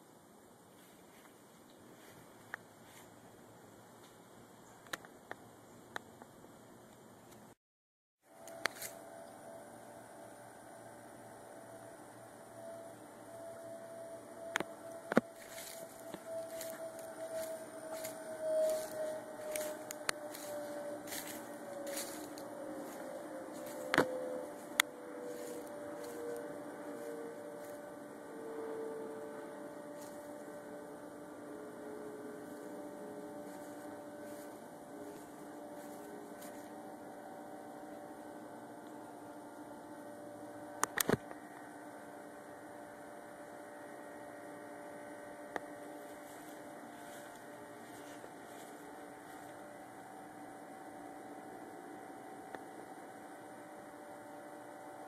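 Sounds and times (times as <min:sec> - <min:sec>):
hum of held tones: 0:00.0 - 0:07.6, 0:08.2 - 0:55.0.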